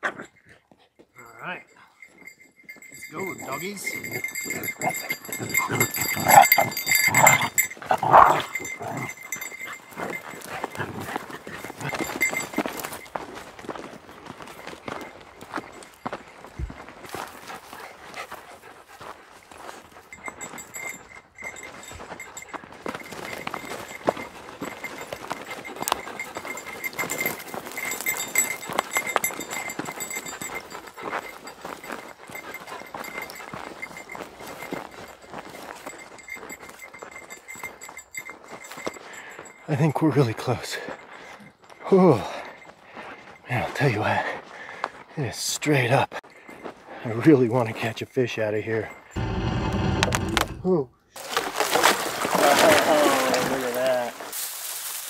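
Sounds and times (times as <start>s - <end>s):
footsteps and hooves on gravel: 1.8s - 49.3s, 51.2s - 55.0s.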